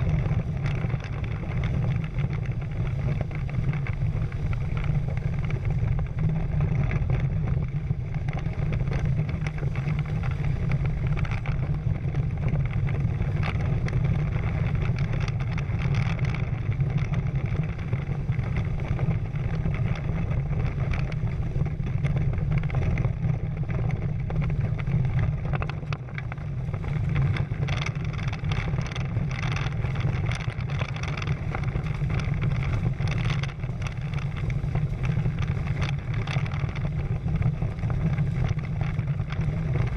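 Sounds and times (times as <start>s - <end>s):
water splashing along hulls: 0.0s - 39.9s
wind on microphone: 0.0s - 39.9s.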